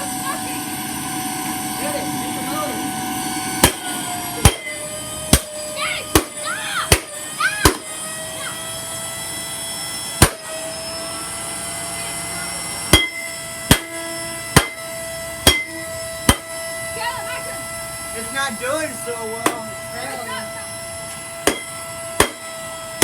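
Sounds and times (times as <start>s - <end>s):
vacuum motor whining: 0.0s - 23.0s.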